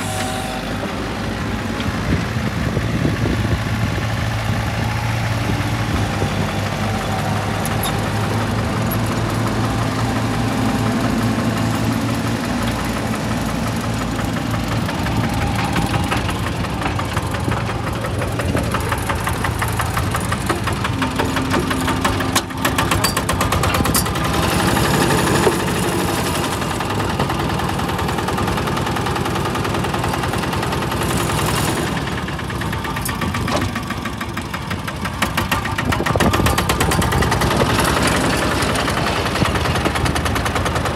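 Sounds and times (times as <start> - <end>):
diesel engines of machines running: 0.0 - 40.9.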